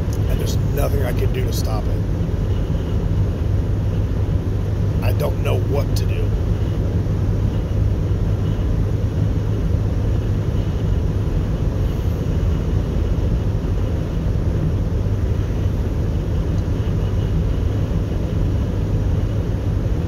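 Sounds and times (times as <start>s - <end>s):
car road and engine drone: 0.0s - 20.0s.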